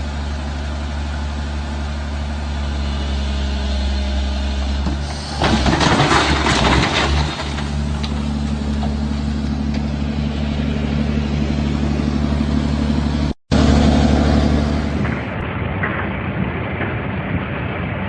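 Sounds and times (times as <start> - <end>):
large engine running: 0.0 - 18.0.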